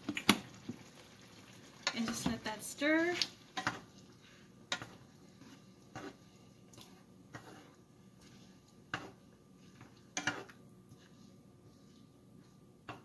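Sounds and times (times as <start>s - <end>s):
wooden spoon stirring thick stew: 0.6s - 13.0s.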